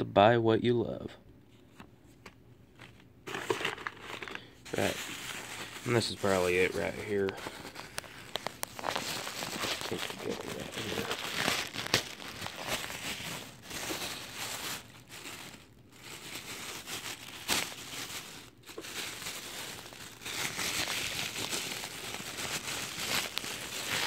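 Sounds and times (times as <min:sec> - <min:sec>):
tissue paper crumpling: 0:02.8 - 0:24.0.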